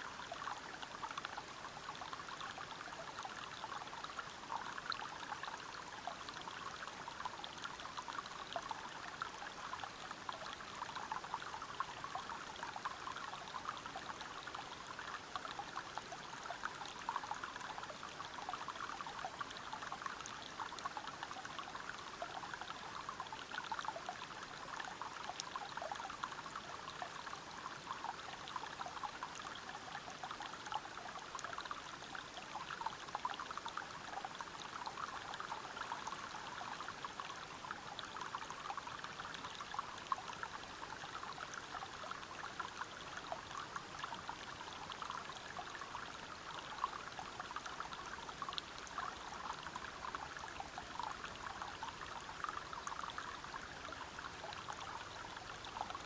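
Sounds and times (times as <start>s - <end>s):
water flowing over rocks: 0.0s - 56.0s
water trickling and dripping: 0.0s - 56.0s.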